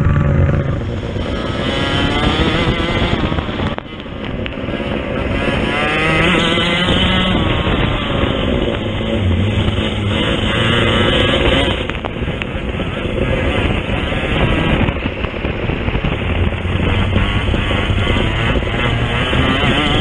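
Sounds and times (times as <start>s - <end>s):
kart engine at high revs: 0.0s - 20.0s.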